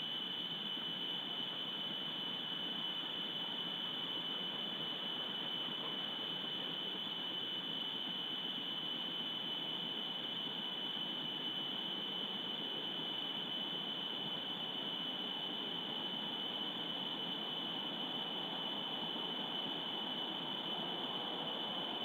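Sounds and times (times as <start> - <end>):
high-pitched whine: 0.0 - 22.0.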